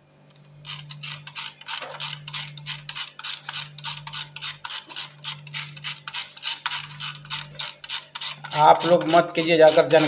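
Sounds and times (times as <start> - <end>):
steady low hum: 0.0 - 10.0
timer dial ratchet clicking: 0.3 - 10.0.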